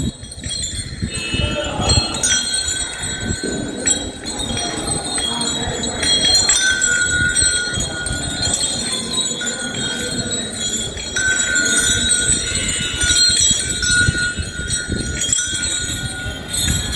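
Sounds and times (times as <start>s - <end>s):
bells jingling: 0.0s - 16.9s.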